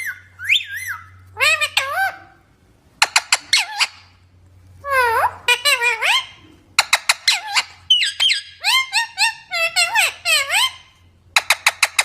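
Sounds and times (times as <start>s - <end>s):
parrot squeaky calls: 0.0s - 2.4s, 3.0s - 4.2s, 4.8s - 12.0s.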